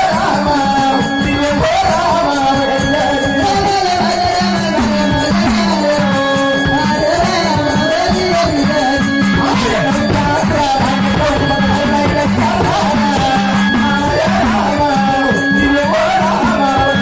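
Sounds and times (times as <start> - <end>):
person singing folk melody: 0.0 - 17.0
rhythmic percussion beat: 0.0 - 17.0.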